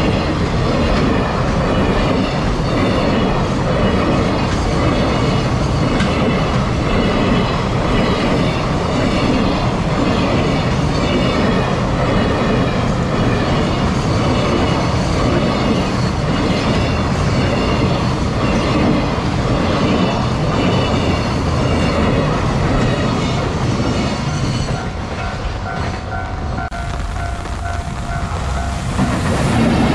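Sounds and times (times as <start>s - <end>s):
freight train rumbling past: 0.0s - 29.9s
steel wheels rattling on rails: 0.0s - 29.9s.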